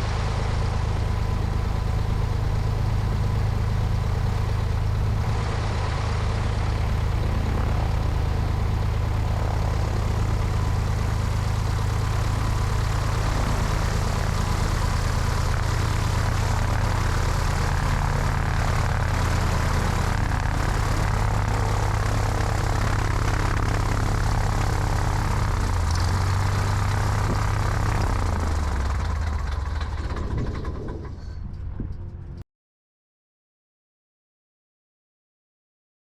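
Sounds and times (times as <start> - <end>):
aircraft piston engine and propeller: 0.0 - 32.4
wind noise: 0.8 - 28.5, 29.2 - 32.4.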